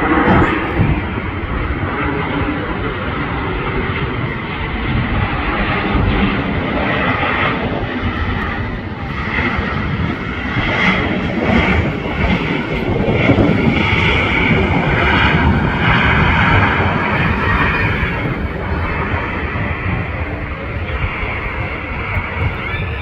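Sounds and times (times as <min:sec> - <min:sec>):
jet airliner engines rolling: 0:00.0 - 0:23.0.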